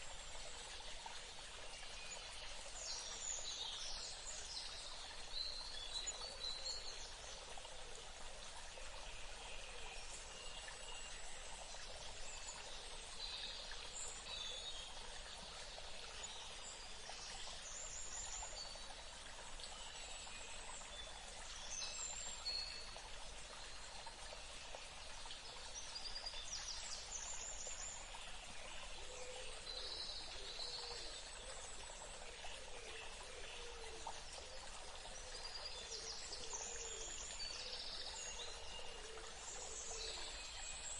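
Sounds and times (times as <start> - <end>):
running water trickling: 0.0 - 40.9.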